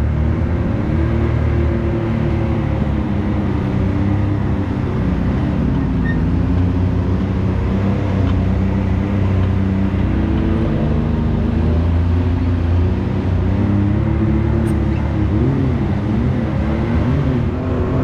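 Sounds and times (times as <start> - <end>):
engine running at low revs: 0.0 - 18.0.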